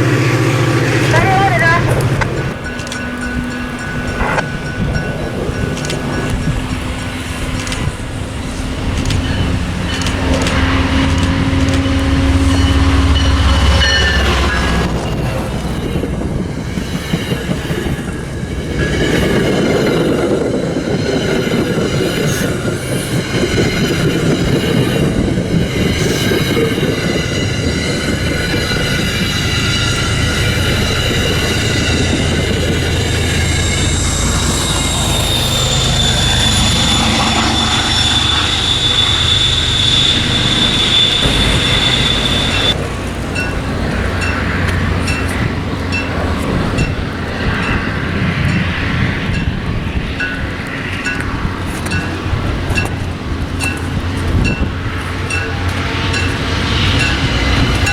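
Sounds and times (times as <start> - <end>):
train engine hum: 0.0 - 57.9
train wheel squeal: 0.0 - 57.9.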